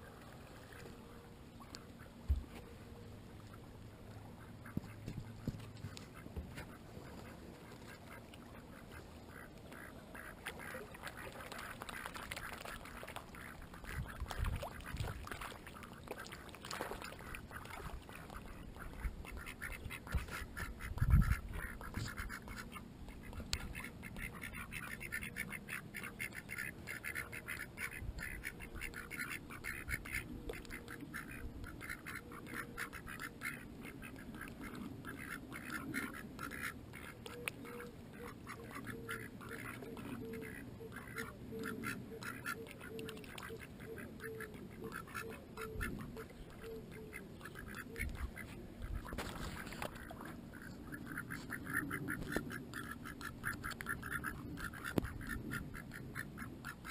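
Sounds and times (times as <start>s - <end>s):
ducks quacking: 0.0s - 56.9s.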